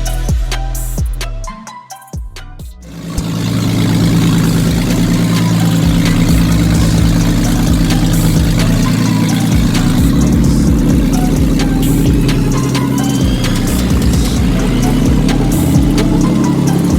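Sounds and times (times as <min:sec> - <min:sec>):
truck engine running steadily: 0:02.9 - 0:16.9.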